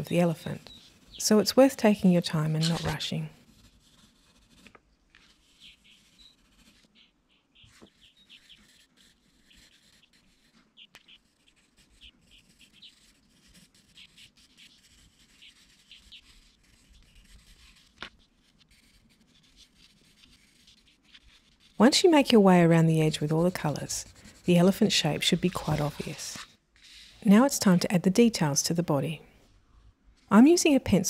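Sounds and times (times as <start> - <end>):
pencil scratching on paper: 0.0 - 27.9.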